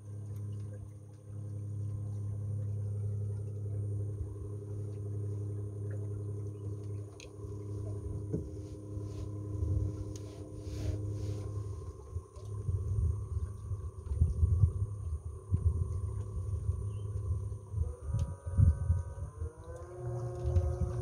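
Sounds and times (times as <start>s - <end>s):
electric boat motor humming: 0.0s - 21.0s.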